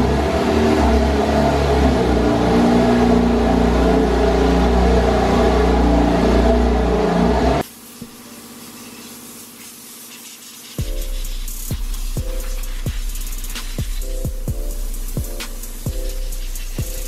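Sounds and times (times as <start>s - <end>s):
car engine running: 0.0s - 7.6s, 10.8s - 17.0s.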